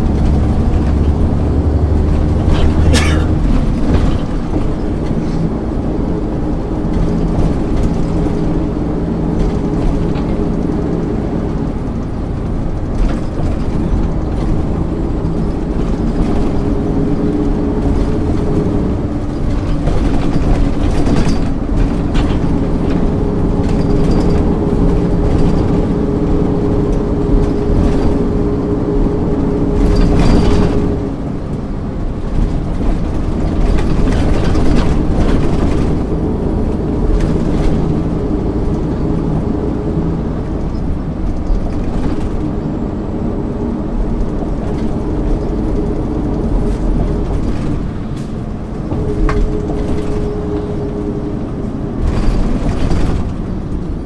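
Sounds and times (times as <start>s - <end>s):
bus body rattling: 0.0s - 54.0s
bus diesel engine pulling: 0.0s - 54.0s.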